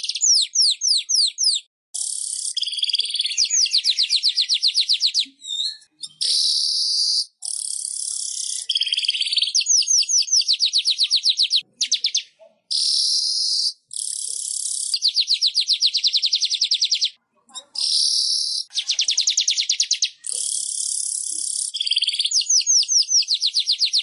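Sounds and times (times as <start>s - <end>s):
weaver bird singing: 0.0s - 24.0s.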